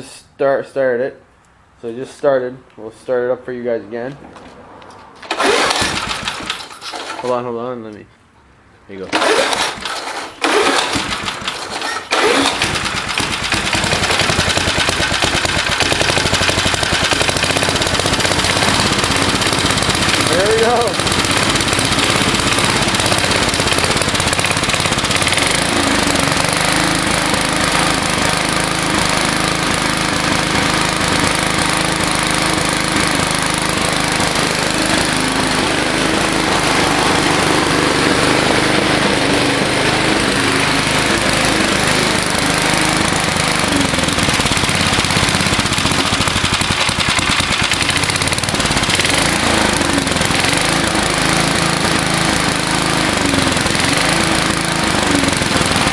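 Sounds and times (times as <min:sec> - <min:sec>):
lawnmower engine running: 0:05.2 - 0:07.4, 0:09.0 - 0:55.9.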